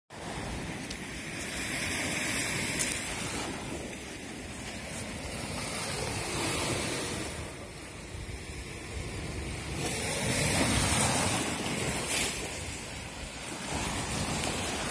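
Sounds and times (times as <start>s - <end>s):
surf washing onto beach: 0.1s - 14.9s
wind buffeting microphone: 0.2s - 14.9s.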